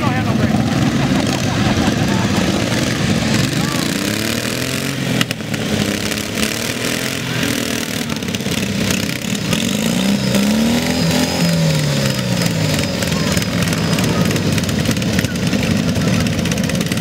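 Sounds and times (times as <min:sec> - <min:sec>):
lawn mower engines revving: 0:00.0 - 0:17.0.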